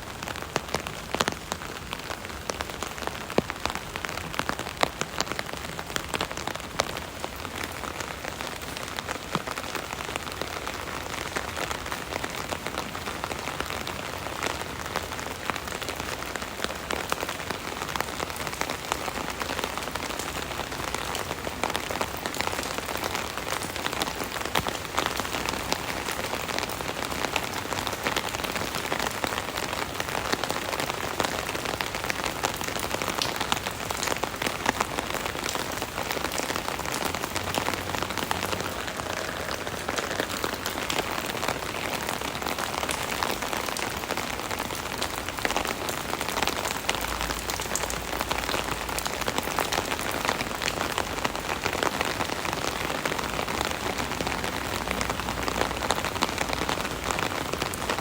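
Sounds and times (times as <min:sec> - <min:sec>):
rain drumming on an umbrella: 0:00.0 - 0:58.0.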